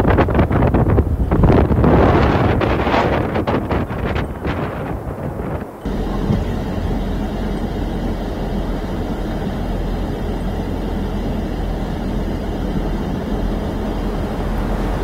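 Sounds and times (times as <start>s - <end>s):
strong wind blowing: 0.0s - 15.0s
wind buffeting microphone: 0.0s - 15.0s.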